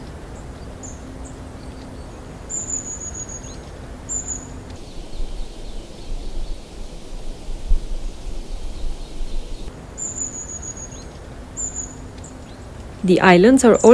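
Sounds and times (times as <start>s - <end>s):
steady forest hiss: 0.0s - 13.9s.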